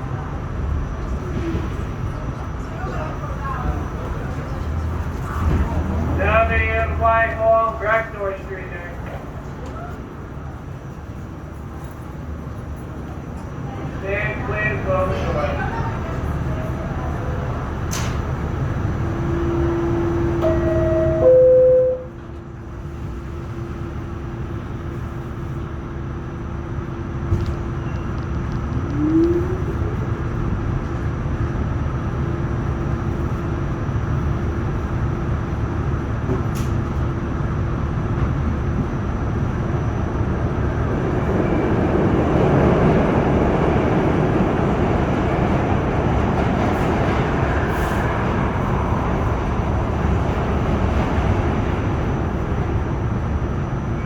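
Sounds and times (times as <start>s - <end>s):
subway train rumbling in tunnel: 0.0s - 54.0s.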